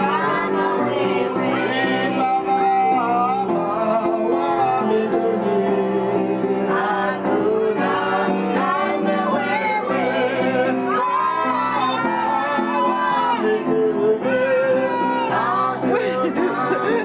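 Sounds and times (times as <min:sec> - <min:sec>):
instrumental accompaniment: 0:00.0 - 0:17.0
voices singing worship song: 0:00.0 - 0:17.0.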